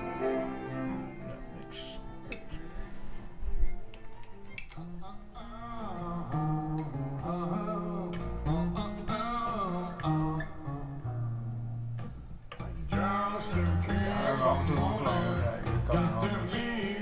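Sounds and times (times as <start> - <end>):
guitar-led music on speakers: 0.0 - 17.0.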